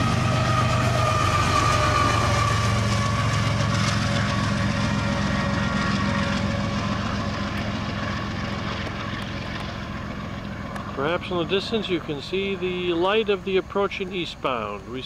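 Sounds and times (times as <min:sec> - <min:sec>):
wheels rolling on rail: 0:00.0 - 0:13.2
high steady whine: 0:00.0 - 0:15.0
locomotive engine drone: 0:00.0 - 0:15.0.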